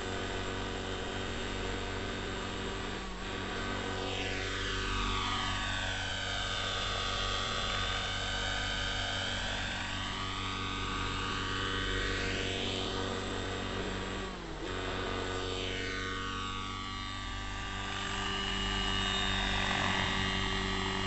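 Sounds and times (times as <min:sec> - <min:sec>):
model helicopter engine and rotors: 0:00.0 - 0:21.0.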